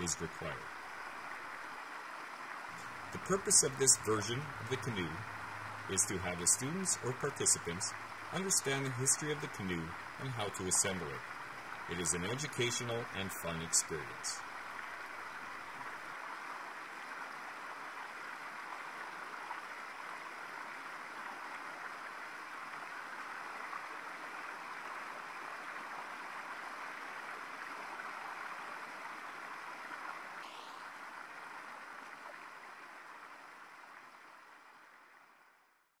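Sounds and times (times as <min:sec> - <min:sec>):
running water: 0:00.0 - 0:35.0.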